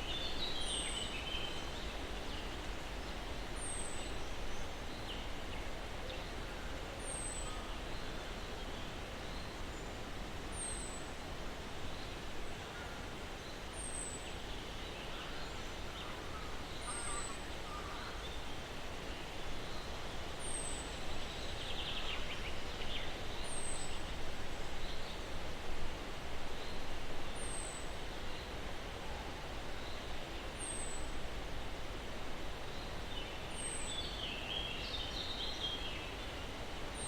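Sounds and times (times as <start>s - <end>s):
breeze through pine trees: 0.0s - 37.0s.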